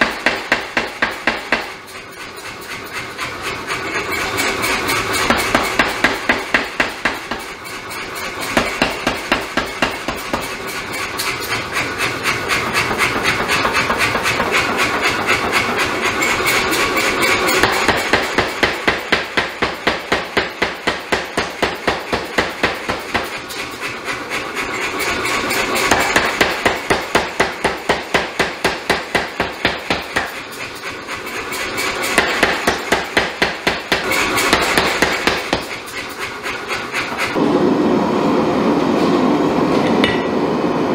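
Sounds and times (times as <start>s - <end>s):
power hammer striking steel: 0.0s - 37.4s, 39.8s - 40.5s.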